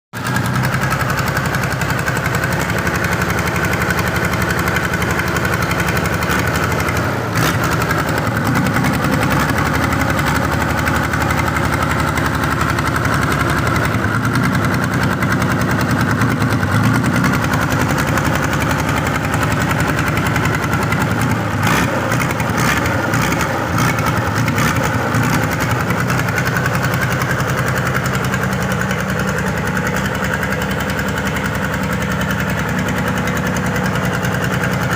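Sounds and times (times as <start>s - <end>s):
sawmill engine running: 0.2s - 34.9s.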